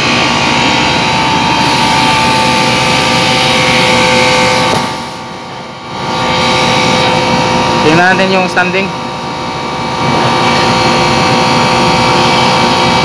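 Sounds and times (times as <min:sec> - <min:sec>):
air conditioner unit running: 0:00.0 - 0:13.0.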